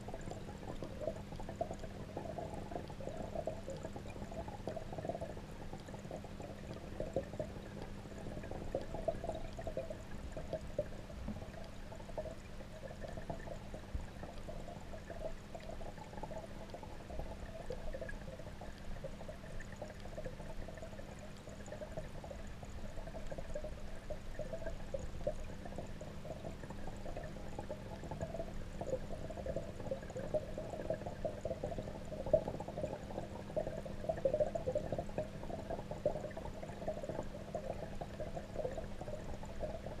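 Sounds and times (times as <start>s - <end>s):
muffled underwater bubbling: 0.0s - 40.0s.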